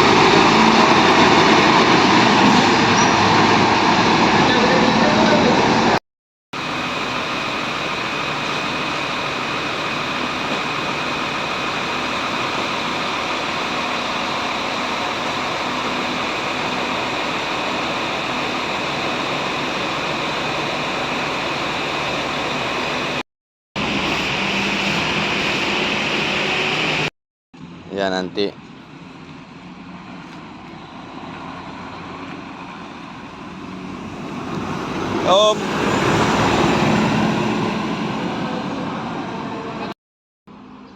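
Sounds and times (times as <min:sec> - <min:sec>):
bus engine hum: 0:00.0 - 0:06.0, 0:06.6 - 0:23.2, 0:23.8 - 0:40.9.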